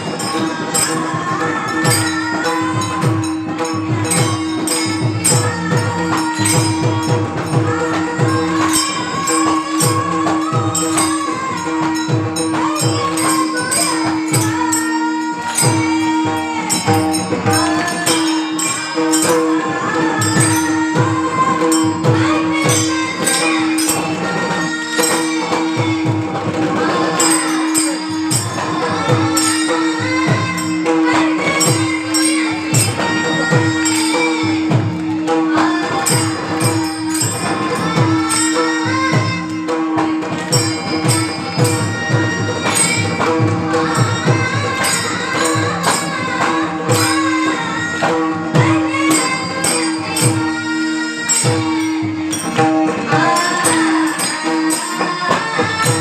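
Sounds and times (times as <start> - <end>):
hand drum: 0.0 - 56.0
jingling hand percussion: 0.0 - 56.0
women singing devotional song: 0.0 - 56.0.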